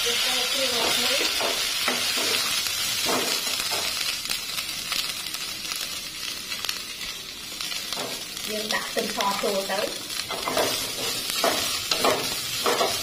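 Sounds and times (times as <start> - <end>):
paste sizzling in oil: 0.0 - 13.0.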